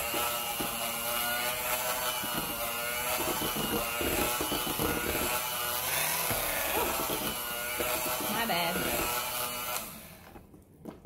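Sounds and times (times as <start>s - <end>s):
electric hand mixer whining: 0.0s - 10.5s.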